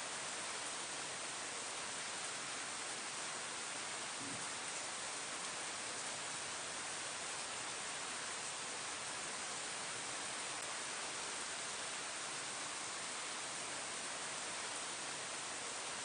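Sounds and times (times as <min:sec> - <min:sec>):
rain falling on foliage: 0:00.0 - 0:16.0.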